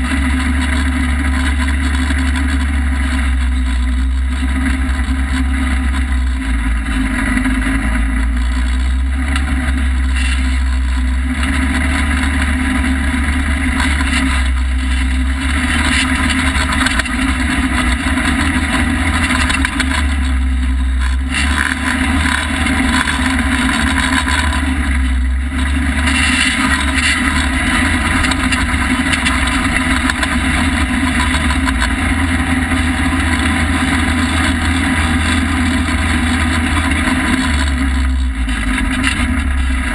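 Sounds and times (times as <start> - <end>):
off-road vehicle engine drone: 0.0 - 39.9.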